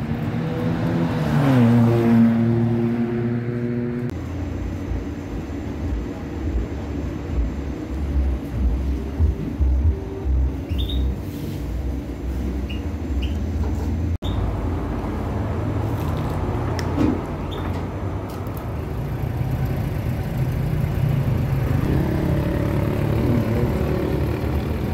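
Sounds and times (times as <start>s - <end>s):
low rumble of road traffic: 0.0s - 24.9s.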